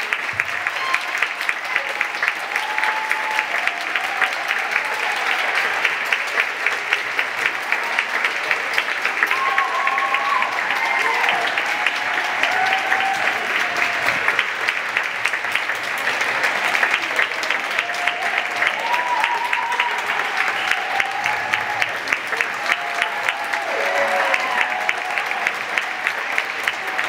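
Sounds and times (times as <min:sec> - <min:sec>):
voices cheering: 0:00.0 - 0:14.5, 0:16.3 - 0:27.0
audience applauding: 0:00.0 - 0:27.0.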